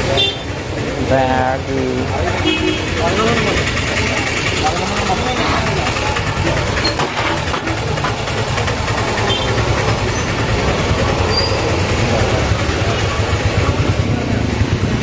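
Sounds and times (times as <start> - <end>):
motorcycle engines idling: 0.0 - 15.0
street noise: 0.0 - 15.0.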